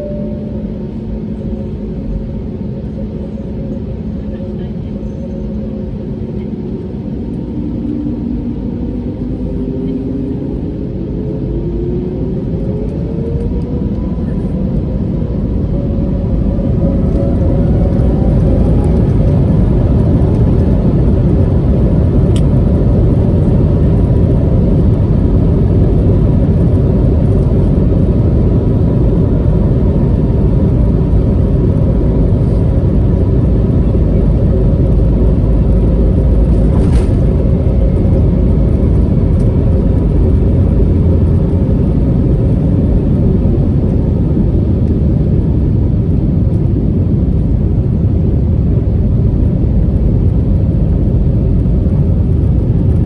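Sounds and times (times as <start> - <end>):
jet engine roar in cabin: 0.0 - 53.0
low rumble: 0.0 - 53.0.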